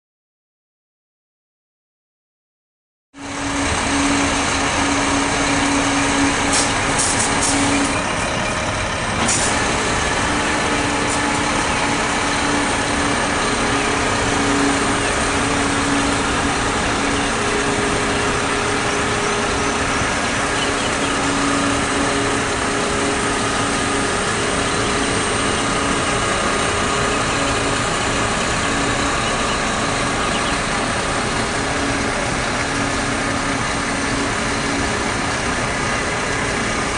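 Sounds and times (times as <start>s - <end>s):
diesel engine hum: 3.2s - 36.9s.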